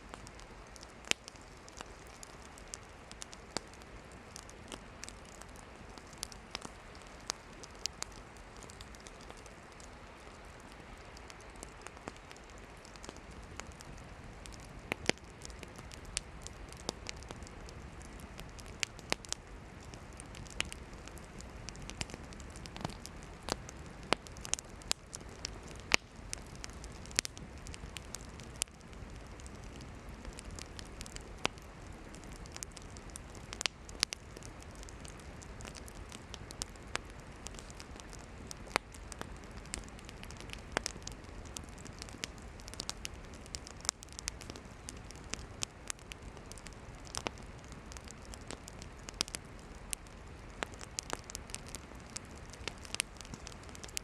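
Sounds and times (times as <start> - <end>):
campfire hissing: 0.0 - 54.0
firewood popping and crackling: 0.0 - 54.0.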